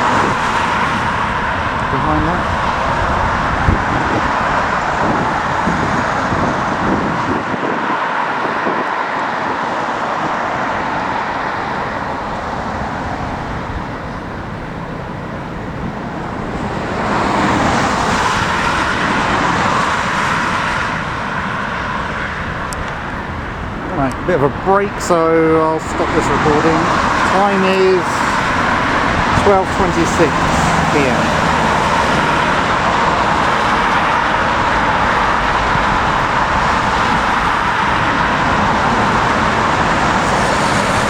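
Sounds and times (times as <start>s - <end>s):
jet engines of airliners taking off: 0.0s - 41.0s
wind rumbling on microphone: 0.0s - 41.0s.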